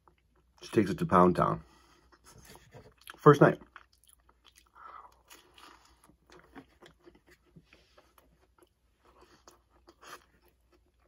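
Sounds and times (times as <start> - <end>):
faint chewing: 1.7 - 11.0.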